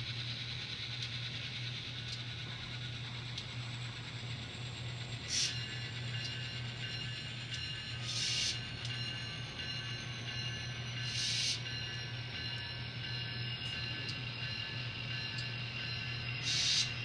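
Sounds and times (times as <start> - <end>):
model train motor whirring: 0.0 - 11.8, 14.4 - 17.0.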